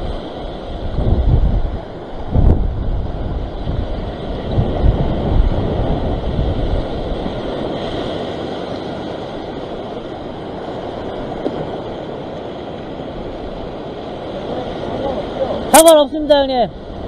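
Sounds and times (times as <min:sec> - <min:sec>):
ocean surf rushing over rocks: 0:00.0 - 0:17.0
wind buffeting microphone: 0:00.0 - 0:17.0.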